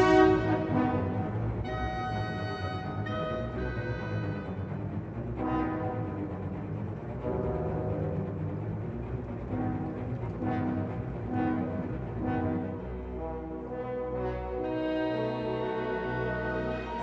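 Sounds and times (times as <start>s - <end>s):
orchestral music with brass: 0.0s - 17.0s.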